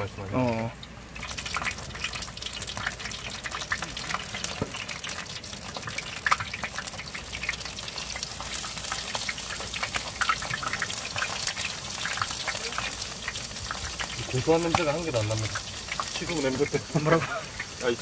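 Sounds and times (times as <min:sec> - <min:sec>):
fish deep-frying in oil: 0:00.0 - 0:18.0.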